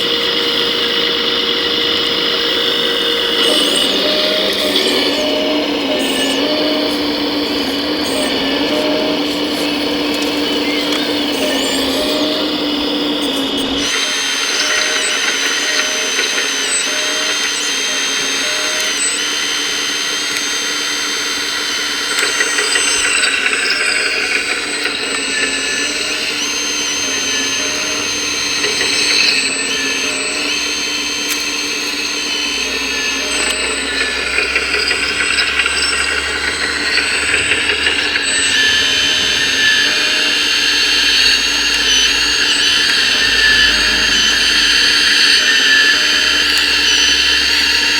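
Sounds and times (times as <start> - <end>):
electric motors and pumps whining: 0.0 - 47.9.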